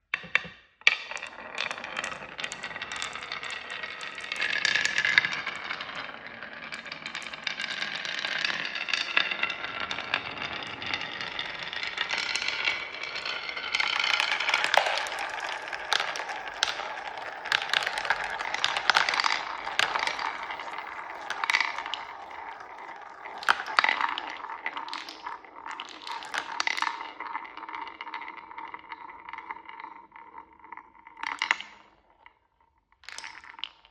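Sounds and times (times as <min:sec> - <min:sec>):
marbles clicking and clacking: 0:00.2 - 0:32.0, 0:33.0 - 0:33.9
marbles rolling down track: 0:00.2 - 0:32.3, 0:33.0 - 0:33.9.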